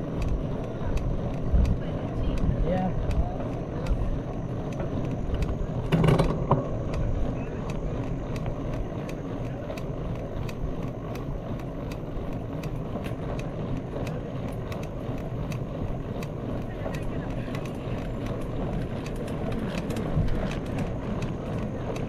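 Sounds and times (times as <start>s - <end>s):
bike rattle: 0.0s - 22.0s
wind and tyres rumbling: 0.0s - 22.0s.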